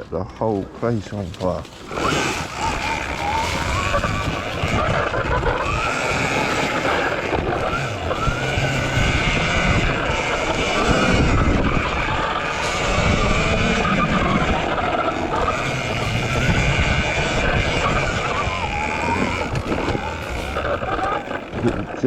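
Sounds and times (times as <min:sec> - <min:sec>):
electric motor whine: 0:01.6 - 0:22.0.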